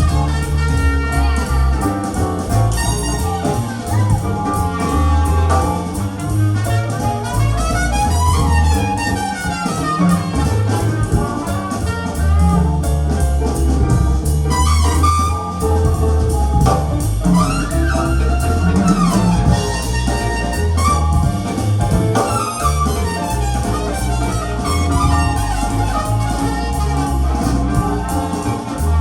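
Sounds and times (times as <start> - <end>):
drums: 0.0 - 29.0
live jazz band: 0.0 - 29.0
sliding lead instrument: 0.0 - 29.0
stepping bass line: 0.0 - 29.0.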